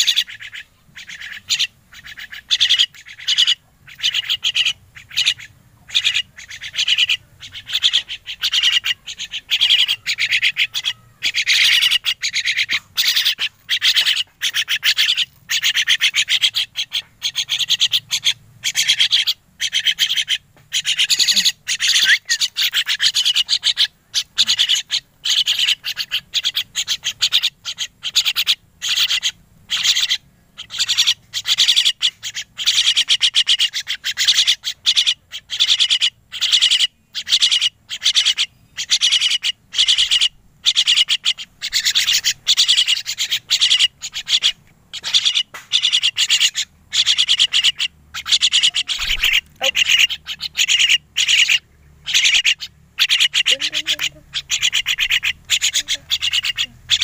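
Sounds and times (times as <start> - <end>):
young mynas begging calls: 0.1 - 34.2, 35.0 - 57.0.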